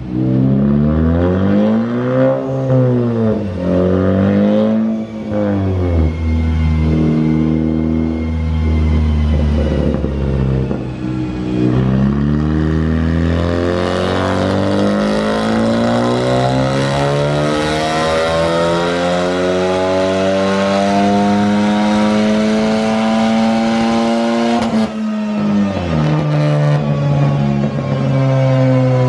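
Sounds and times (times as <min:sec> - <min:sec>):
turbocharged engine revving: 0:00.0 - 0:29.0.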